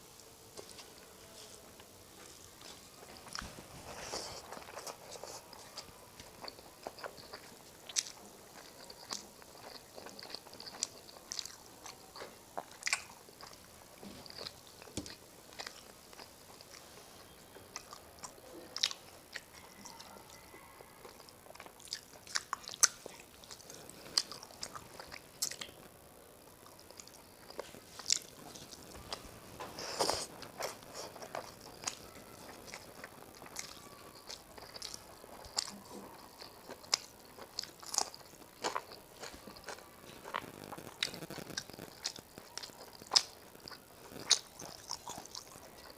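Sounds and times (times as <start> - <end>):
person chewing food: 0.5 - 25.9, 26.6 - 45.9.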